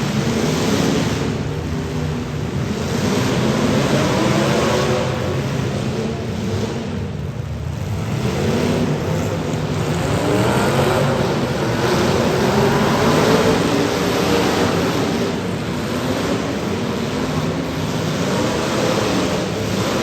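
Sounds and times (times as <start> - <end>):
car engines revving: 0.0 - 20.0
steady noisy rumble: 0.0 - 20.0.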